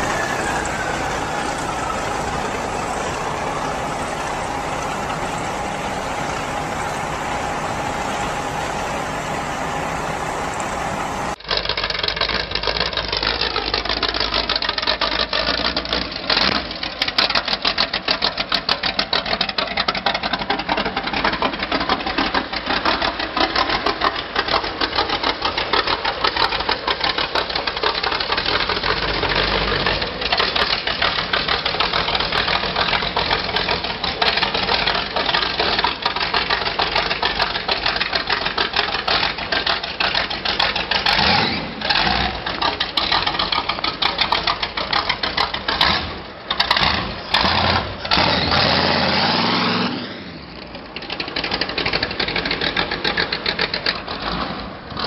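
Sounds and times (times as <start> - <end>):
engine running with open exhaust: 0.0 - 55.0.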